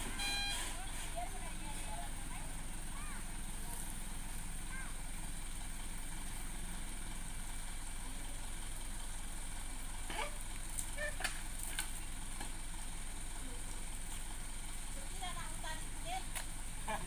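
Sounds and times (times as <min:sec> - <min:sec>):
truck engine humming: 0:00.0 - 0:17.0.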